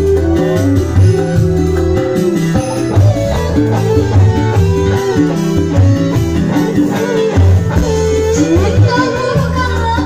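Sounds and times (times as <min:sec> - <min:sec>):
live band with guitar lead: 0:00.0 - 0:10.0.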